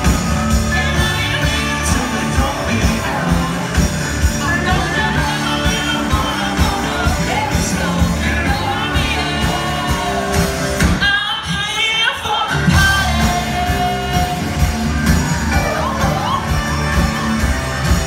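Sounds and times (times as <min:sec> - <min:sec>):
bass guitar: 0:00.0 - 0:18.0
drums: 0:00.0 - 0:18.0.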